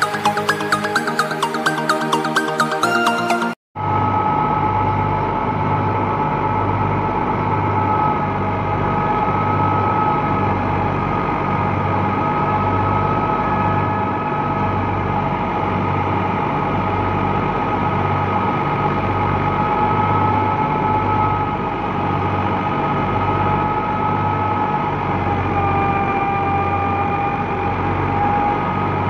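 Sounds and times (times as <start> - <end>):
high two-tone whine: 0.0 - 29.0.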